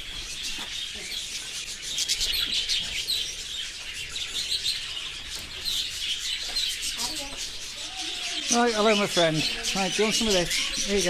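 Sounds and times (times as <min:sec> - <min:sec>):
flock of parrots chirping: 0:00.0 - 0:11.0.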